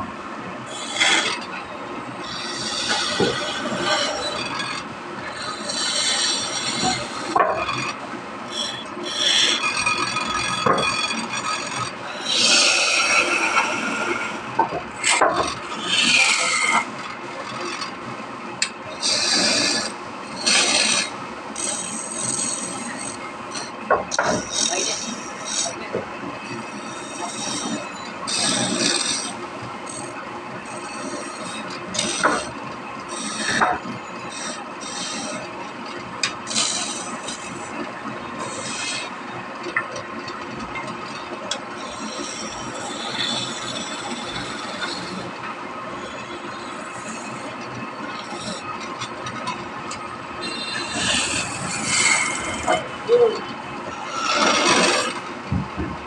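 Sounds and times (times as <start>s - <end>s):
tool scraping wood: 0.7s - 1.5s, 2.3s - 56.0s.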